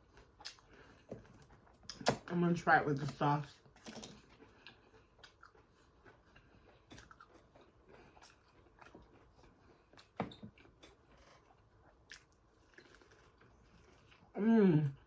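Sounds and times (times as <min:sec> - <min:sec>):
person chewing food: 0:00.0 - 0:02.3, 0:03.0 - 0:15.0.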